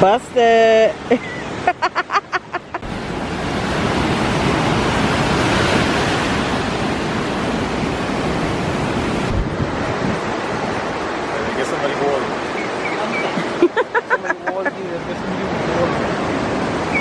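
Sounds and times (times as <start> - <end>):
ocean surf washing in: 0.0 - 17.0.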